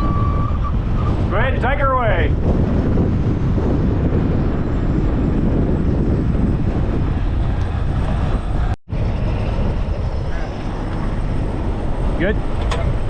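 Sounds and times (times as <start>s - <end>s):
heavy truck running: 0.0s - 13.0s
wind blasting across microphone: 0.0s - 13.0s.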